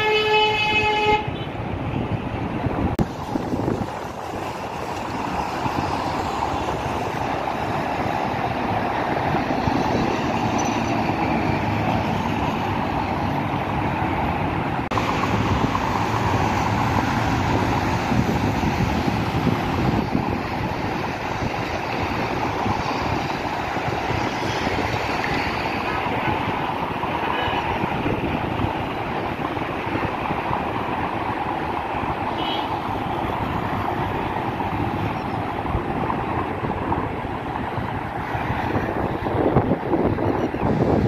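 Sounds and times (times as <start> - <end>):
highway traffic passing: 0.0 - 41.0.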